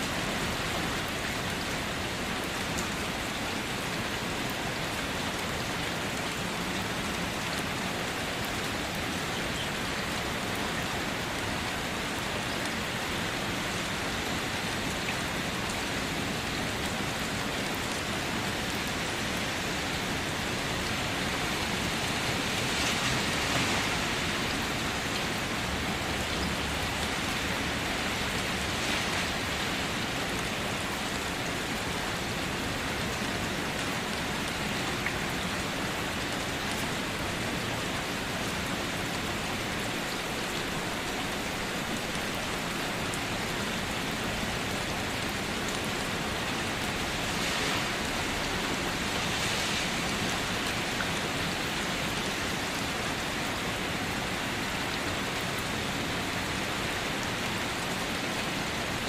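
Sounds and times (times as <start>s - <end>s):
individual raindrops: 0.0s - 55.5s
rain falling on leaves: 0.0s - 59.0s.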